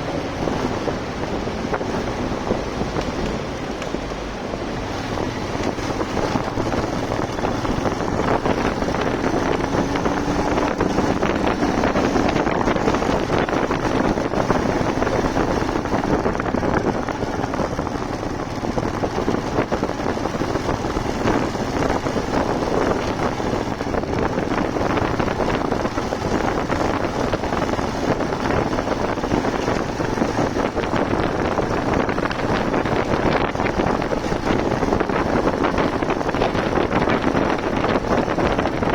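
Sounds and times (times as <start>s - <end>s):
motorcycle engine: 0.0s - 38.9s
road noise: 0.0s - 38.9s
wind rushing over microphone: 0.0s - 38.9s.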